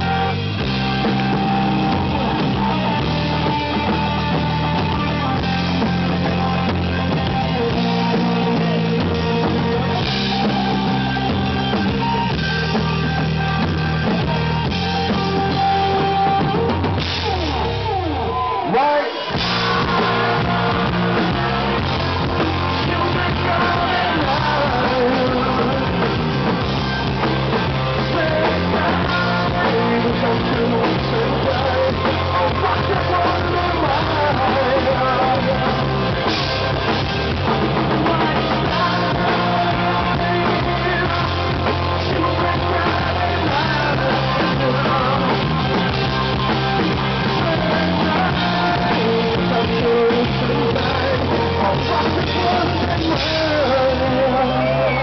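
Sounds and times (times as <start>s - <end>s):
man singing: 0.0s - 12.0s, 18.6s - 46.0s, 46.8s - 55.0s
bass guitar: 0.0s - 55.0s
drum kit: 0.0s - 55.0s
electric guitars: 0.0s - 55.0s.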